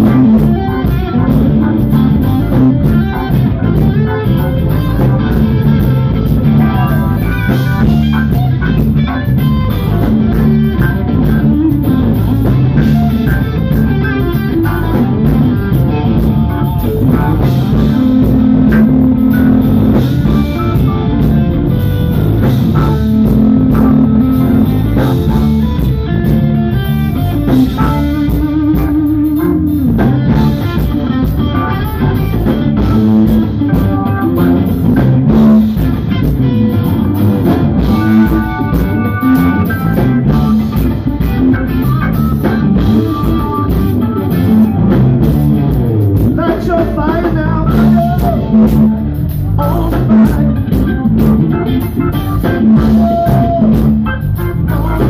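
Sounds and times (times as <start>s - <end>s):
drum kit: 0.0s - 55.0s
electric guitar: 0.0s - 55.0s
organ: 0.0s - 55.0s.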